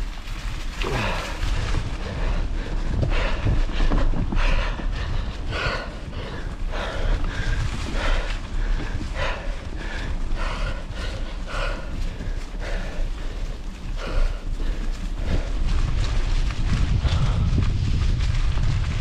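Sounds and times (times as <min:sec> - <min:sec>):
heavy rhythmic breathing: 0:00.0 - 0:19.0
wind buffeting microphone: 0:00.0 - 0:19.0.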